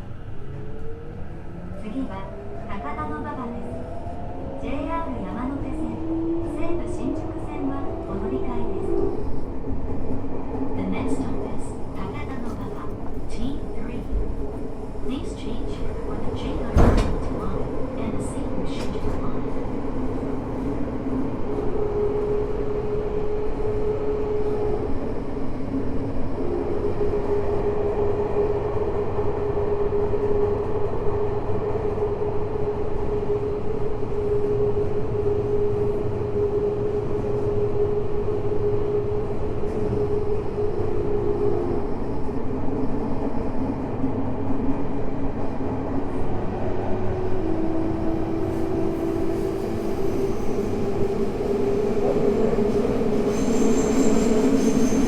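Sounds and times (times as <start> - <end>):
train wheels rumbling on rail: 4.8 - 55.0.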